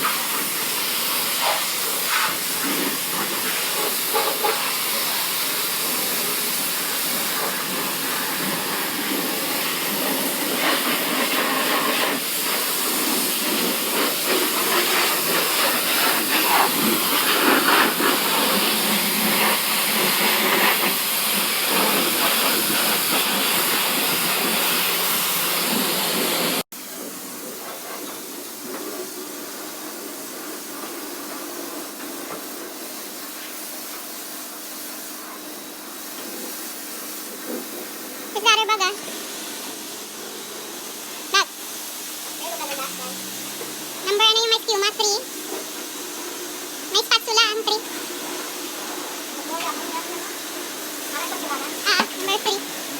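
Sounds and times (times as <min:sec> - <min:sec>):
high-pressure water spraying: 0:00.0 - 0:52.9.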